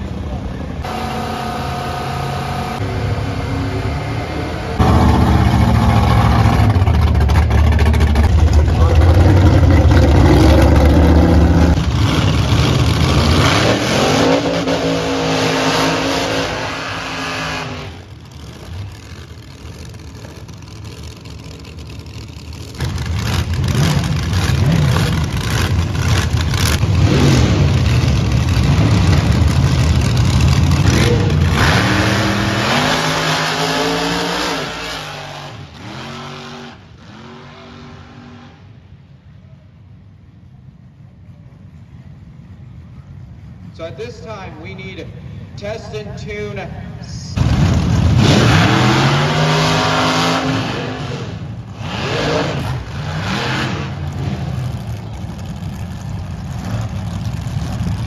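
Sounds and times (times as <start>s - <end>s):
cars launching down drag strip: 0.0s - 58.0s
drag car engine rumbling: 0.0s - 58.0s
race engines roaring: 0.0s - 58.0s.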